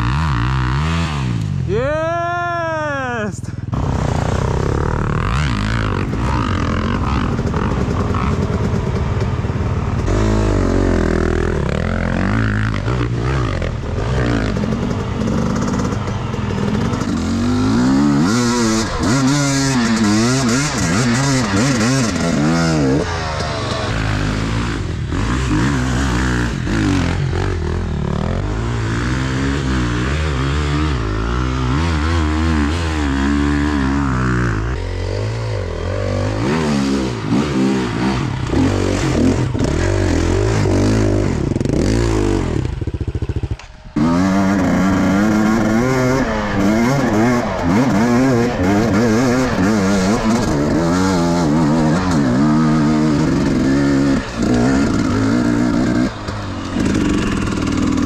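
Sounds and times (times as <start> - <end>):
motorcycle engine revving: 0.0 - 2.1, 3.0 - 58.0.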